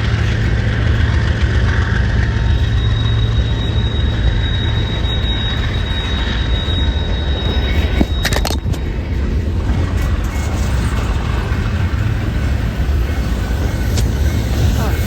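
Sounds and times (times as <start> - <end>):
high steady tone: 0.0 - 15.0
train rumbling: 0.0 - 15.0.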